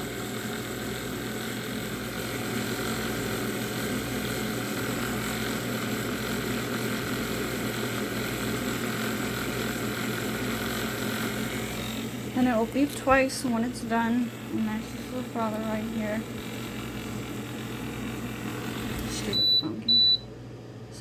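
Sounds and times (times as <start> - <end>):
milk frother humming: 0.0 - 20.3.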